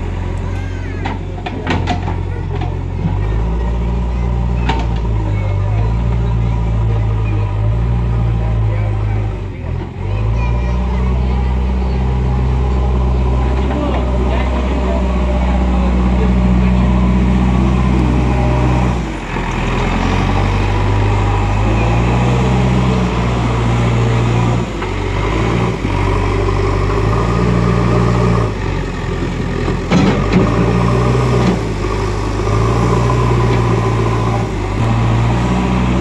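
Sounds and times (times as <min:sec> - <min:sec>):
diesel engine revving under load: 0:00.0 - 0:36.0.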